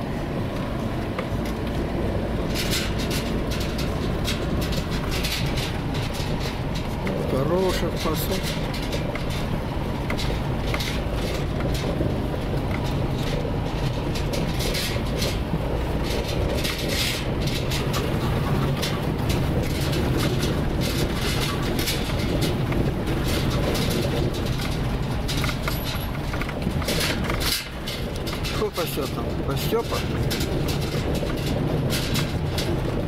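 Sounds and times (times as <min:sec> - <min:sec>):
car engine and road rumble: 0:00.0 - 0:33.0
rattling clicks: 0:00.4 - 0:33.0.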